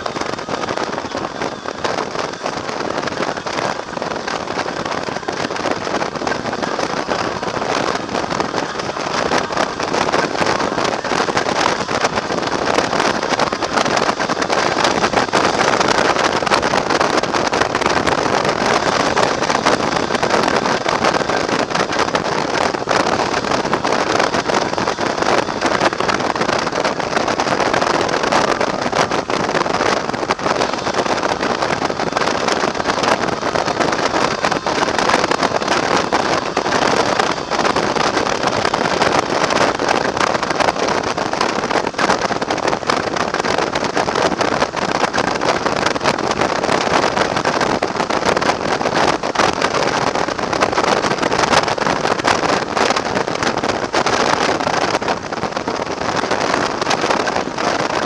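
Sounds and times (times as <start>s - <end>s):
road noise: 0.0s - 58.0s
wind rushing over microphone: 0.0s - 58.0s.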